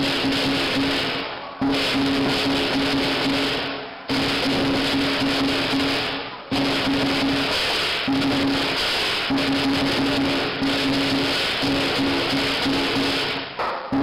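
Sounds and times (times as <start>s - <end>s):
drum cymbals and gong band: 0.0s - 14.0s.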